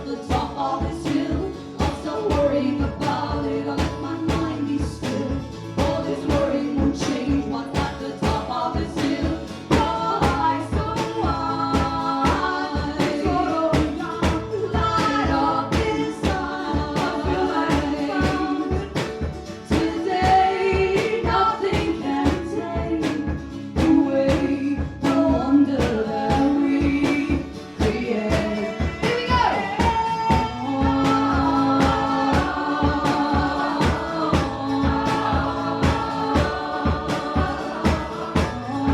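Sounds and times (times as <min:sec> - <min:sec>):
strummed acoustic guitars: 0:00.0 - 0:38.9
voices singing together: 0:00.0 - 0:38.9.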